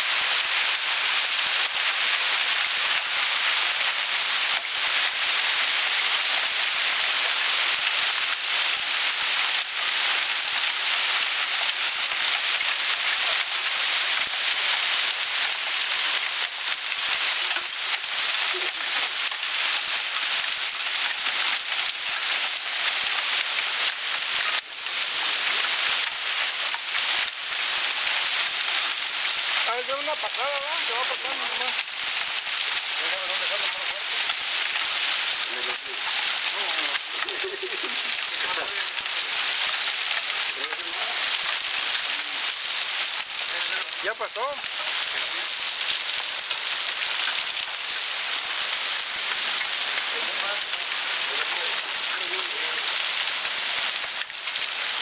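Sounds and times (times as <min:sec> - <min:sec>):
hailstones hitting: 0:00.0 - 0:55.0
heavy rain pounding street: 0:00.0 - 0:55.0.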